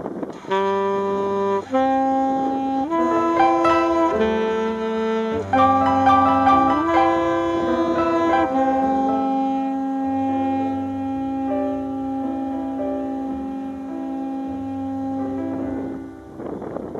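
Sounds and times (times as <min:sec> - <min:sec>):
instrumental score music: 0:01.0 - 0:16.9.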